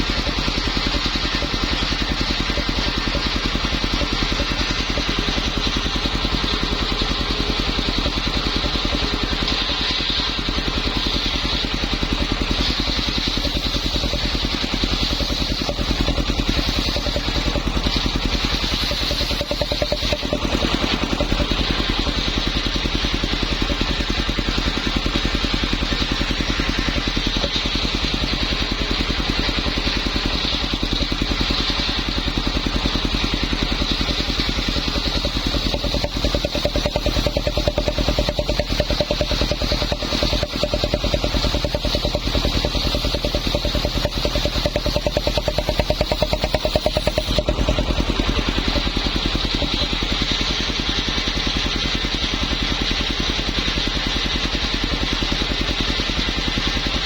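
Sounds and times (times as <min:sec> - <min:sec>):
circular saw engine running: 0:00.0 - 0:57.0.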